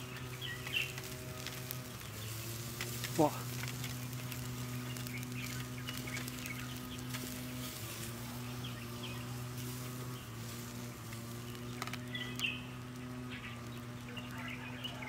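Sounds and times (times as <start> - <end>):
steaks sizzling on grill: 0.0 - 15.0.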